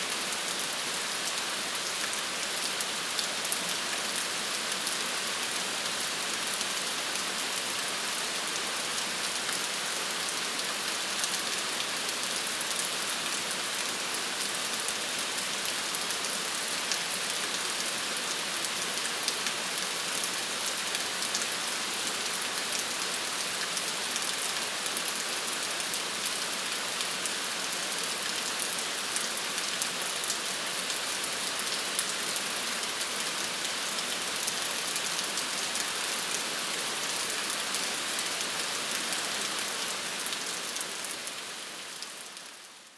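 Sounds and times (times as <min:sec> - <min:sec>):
rain on hard surfaces: 0:00.0 - 0:42.9.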